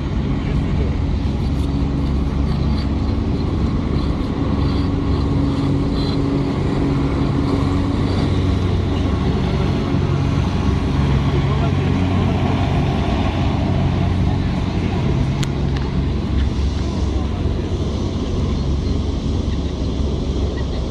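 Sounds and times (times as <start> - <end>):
engine drone: 0.0 - 20.9.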